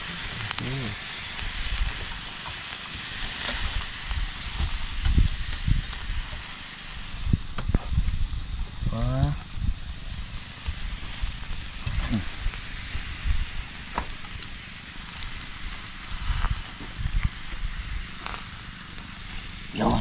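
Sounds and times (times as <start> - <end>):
fire crackling and popping: 0.0 - 20.0
fish sizzling on grill: 0.0 - 20.0.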